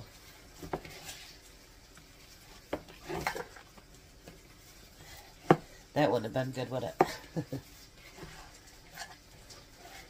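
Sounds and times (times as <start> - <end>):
hands kneading mixture: 0.0 - 10.0.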